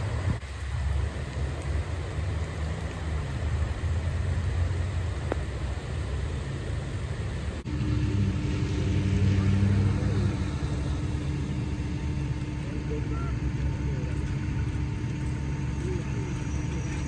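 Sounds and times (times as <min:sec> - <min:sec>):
engine hum: 0:00.0 - 0:17.0
rushing floodwater rumble: 0:00.0 - 0:17.0.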